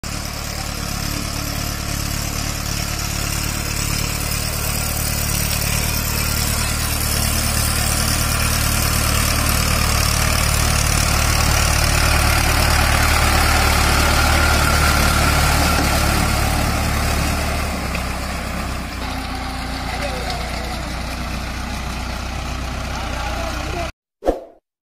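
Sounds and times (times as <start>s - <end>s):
diesel tractor engine running: 0.0s - 23.9s.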